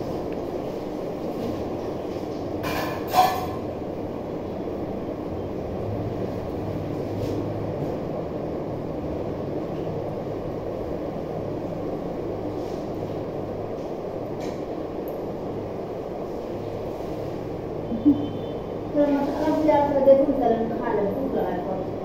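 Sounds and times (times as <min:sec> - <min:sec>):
low rumbling background noise: 0:00.0 - 0:22.0.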